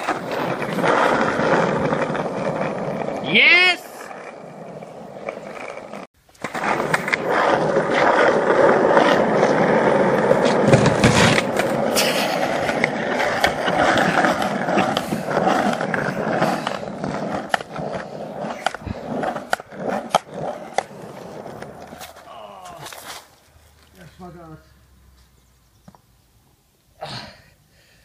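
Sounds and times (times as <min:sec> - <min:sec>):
skateboard clacks: 0:00.0 - 0:22.8
skateboard wheels rolling on asphalt: 0:00.0 - 0:27.0.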